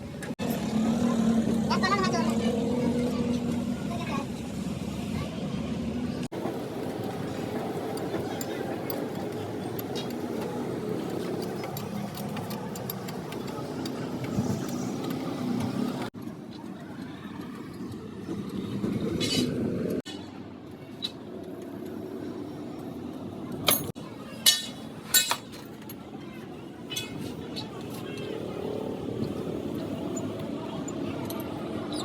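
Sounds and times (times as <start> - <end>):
workshop noise: 0.0 - 32.0.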